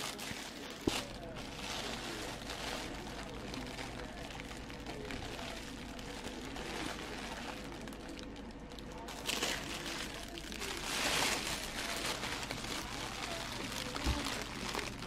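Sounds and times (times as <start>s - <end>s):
low background hum: 0.0s - 15.0s
plastic bag crinkling: 0.0s - 15.0s.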